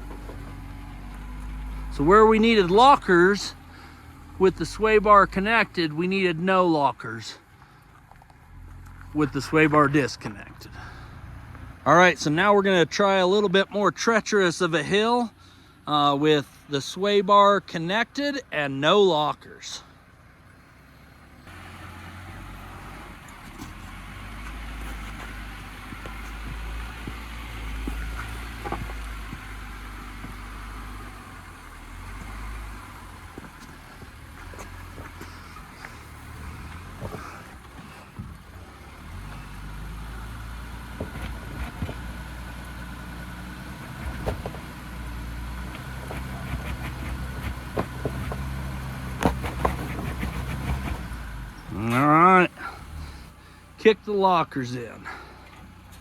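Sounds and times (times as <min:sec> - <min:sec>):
rocks clicking under tires: 0:00.0 - 0:06.1, 0:07.4 - 0:13.6, 0:21.4 - 0:53.6, 0:55.2 - 0:56.0
vehicle engine at low revs: 0:00.0 - 0:56.0.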